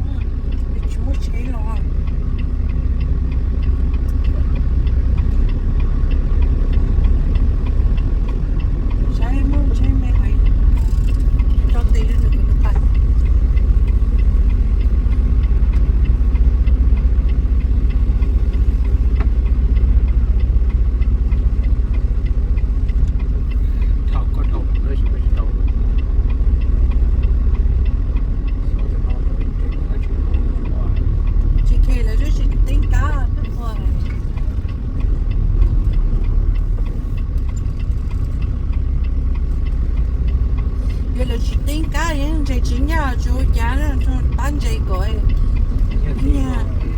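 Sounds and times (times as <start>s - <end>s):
faint regular ticking: 0.0s - 46.9s
truck engine idling: 0.0s - 46.9s.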